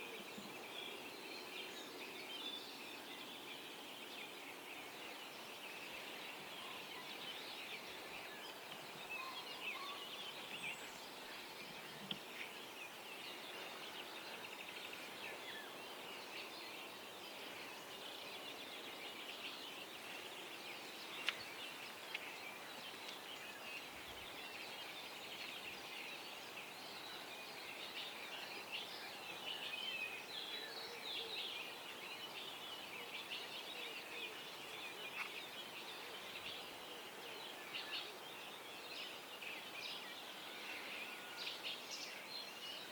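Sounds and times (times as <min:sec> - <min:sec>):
songbirds singing and chattering: 0:00.0 - 0:42.9.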